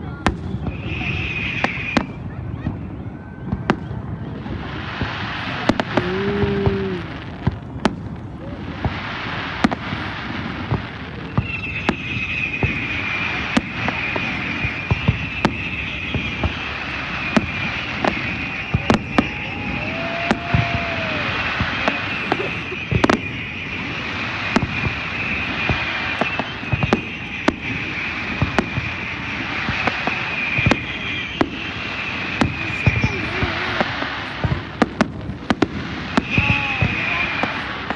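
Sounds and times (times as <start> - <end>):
fireworks bangs: 0.0 - 37.9.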